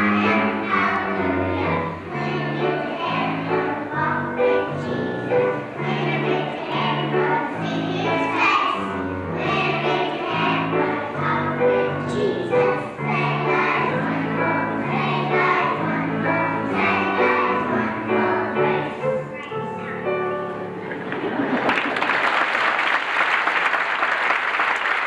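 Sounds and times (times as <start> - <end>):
children's choir singing: 0.0 - 20.3
low instrumental accompaniment: 0.0 - 21.4.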